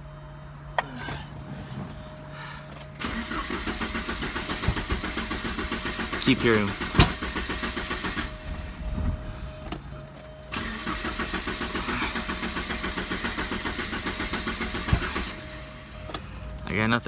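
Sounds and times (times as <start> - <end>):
car engine cranking on starter: 0.7 - 16.8.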